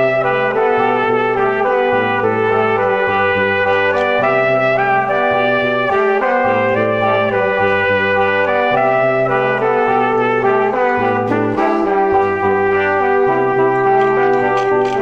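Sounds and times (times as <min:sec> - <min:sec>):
brass instrumental music: 0:00.0 - 0:15.0.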